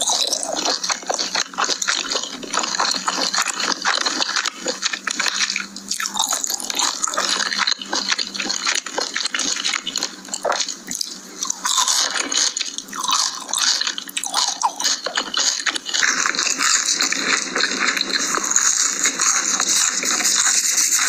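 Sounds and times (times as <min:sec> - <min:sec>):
biting and chewing: 0:00.0 - 0:21.0.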